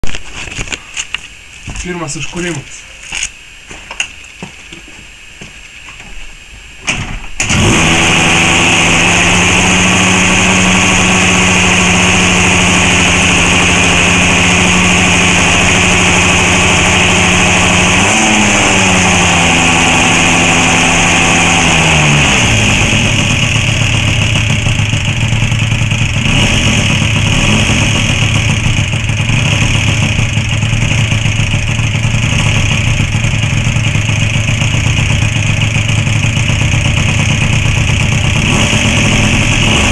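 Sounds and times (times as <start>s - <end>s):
two-stroke scooter engine idling: 7.4s - 39.9s.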